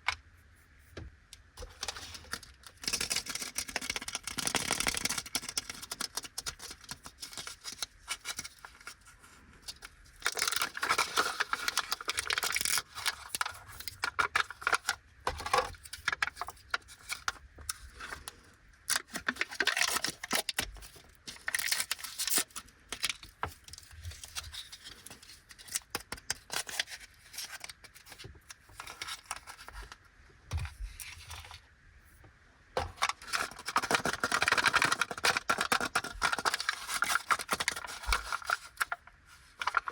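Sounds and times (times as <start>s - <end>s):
plastic wrapper crinkling and tearing: 1.6s - 9.0s, 9.6s - 30.0s, 32.8s - 39.9s
small plastic parts rattling: 1.6s - 9.0s, 9.6s - 30.0s, 32.8s - 39.9s.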